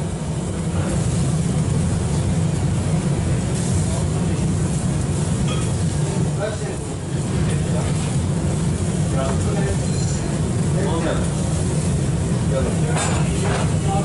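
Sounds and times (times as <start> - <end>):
low rumble and hiss: 0.0 - 14.0
meat sizzling on charcoal grill: 0.0 - 14.0.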